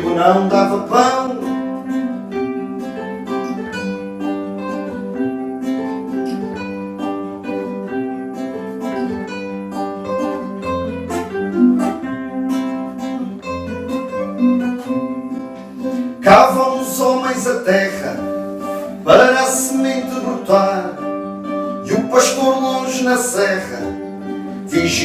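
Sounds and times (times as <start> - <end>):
acoustic guitars strumming and picking: 0.0 - 25.0.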